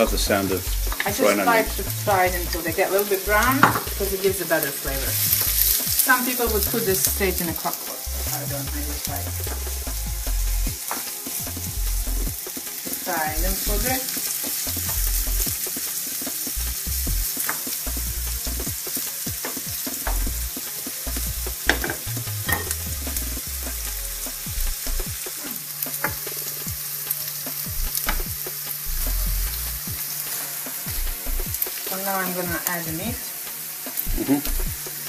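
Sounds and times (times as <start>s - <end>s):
onions and bacon sizzling in pan: 0.0s - 35.0s.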